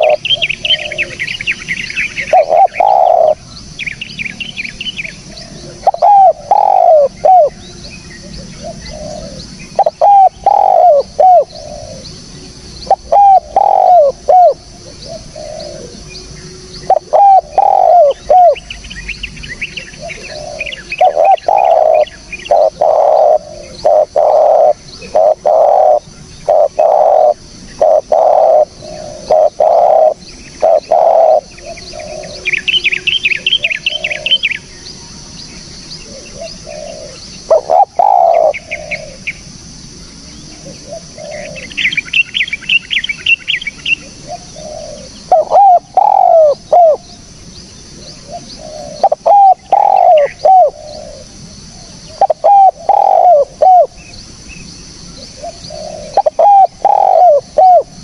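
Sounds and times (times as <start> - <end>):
dove cooing: 0.0 - 3.5, 4.3 - 12.2, 12.8 - 18.9, 19.6 - 34.7, 35.9 - 39.4, 40.4 - 47.2, 47.9 - 54.2, 55.2 - 58.0.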